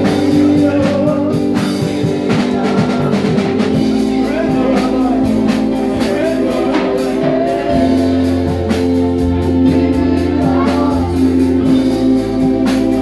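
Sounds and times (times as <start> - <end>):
deep bass note: 0.0 - 13.0
gospel singing: 0.0 - 13.0
sustained instrumental chords: 0.0 - 13.0.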